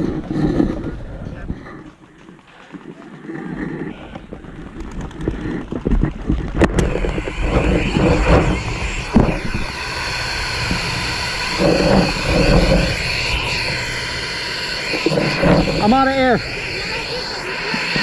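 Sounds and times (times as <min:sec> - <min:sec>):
handling rumble: 0:00.0 - 0:17.9
sharp pops: 0:02.2 - 0:18.0
wind buffeting microphone: 0:02.7 - 0:18.0.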